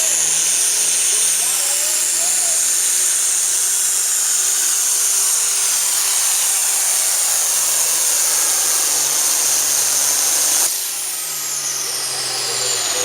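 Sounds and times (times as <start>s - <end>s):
high turbo whine: 0.0s - 13.0s.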